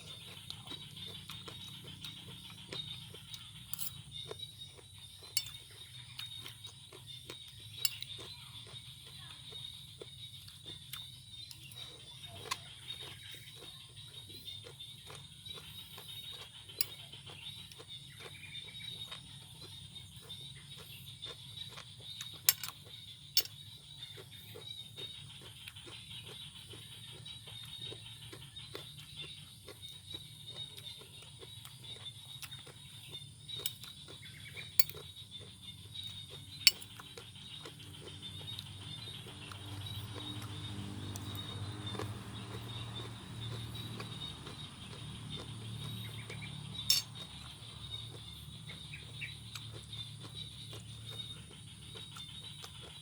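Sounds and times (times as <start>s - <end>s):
chewing crunchy vegetables: 0.0s - 53.0s.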